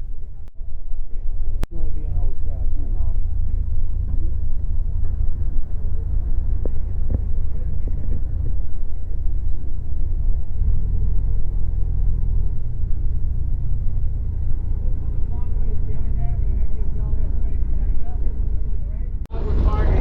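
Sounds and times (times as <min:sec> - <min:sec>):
deeper louder rumble: 0:00.0 - 0:20.0
vehicle engines rumbling: 0:00.0 - 0:20.0.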